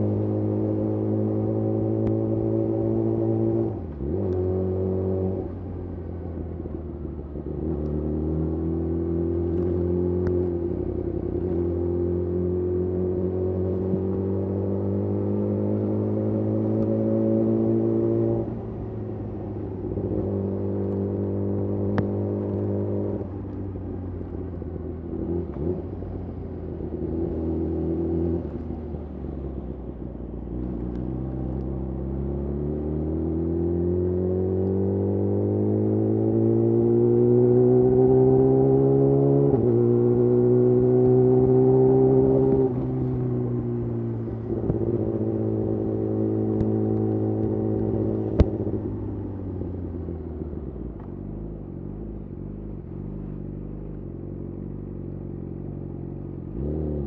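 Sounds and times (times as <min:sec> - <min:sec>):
motorcycle engine revving: 0:07.3 - 0:29.7, 0:30.6 - 0:57.0.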